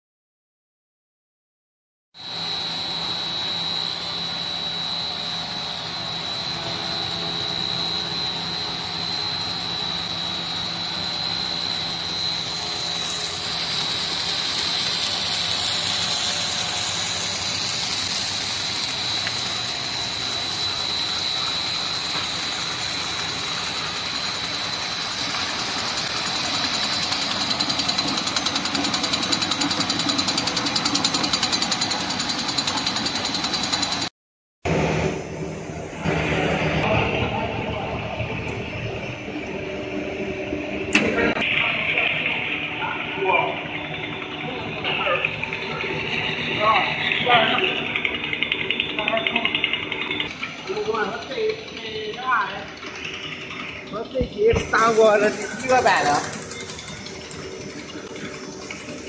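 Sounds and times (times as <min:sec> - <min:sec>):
machinery whine and hum: 0:02.2 - 0:34.1, 0:34.7 - 0:59.0
rhythmic mechanical chatter: 0:02.3 - 0:34.1, 0:41.3 - 0:59.0.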